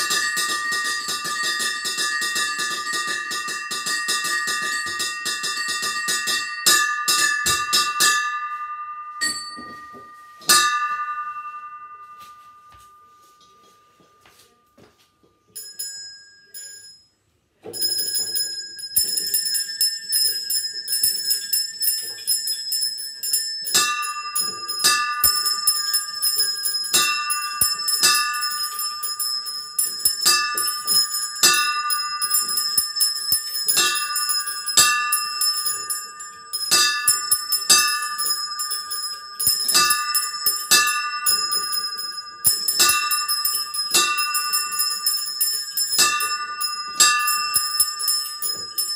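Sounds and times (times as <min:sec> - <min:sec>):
small bells pealing: 0:00.0 - 0:14.8, 0:15.4 - 0:48.9
lower bell striking: 0:00.0 - 0:14.9, 0:17.8 - 0:48.9.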